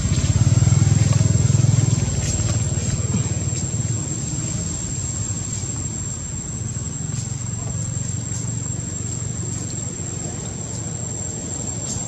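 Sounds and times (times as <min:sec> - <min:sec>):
engine rumble idling: 0:00.0 - 0:12.0.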